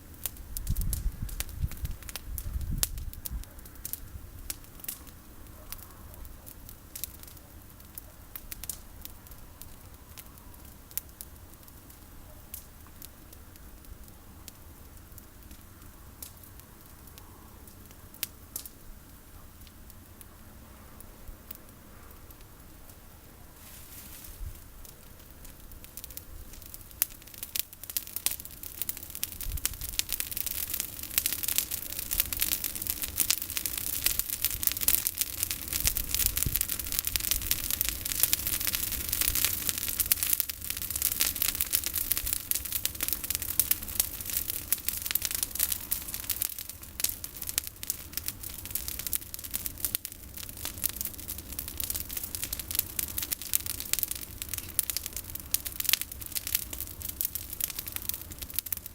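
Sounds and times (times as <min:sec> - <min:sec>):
bonfire crackling and popping: 0:00.0 - 0:58.9.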